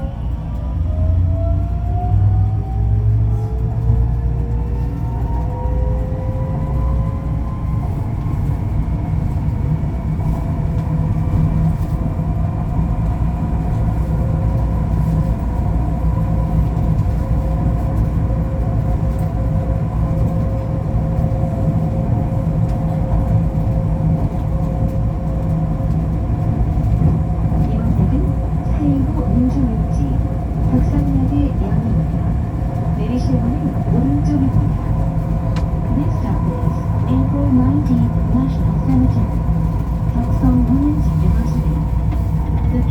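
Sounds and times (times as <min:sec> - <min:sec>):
train rumbling inside car: 0:00.0 - 0:42.9.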